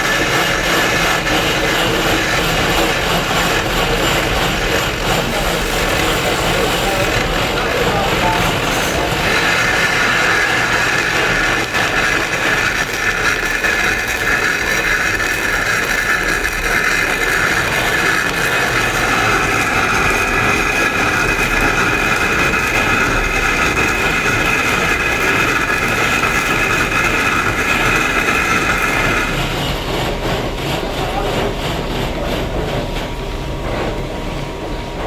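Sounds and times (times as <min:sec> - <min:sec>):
power tool whining on stone: 0:00.0 - 0:29.4.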